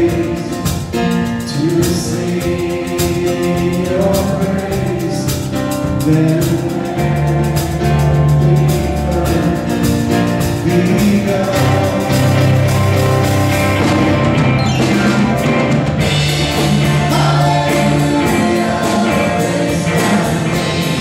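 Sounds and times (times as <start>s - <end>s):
drum kit: 0.0s - 21.0s.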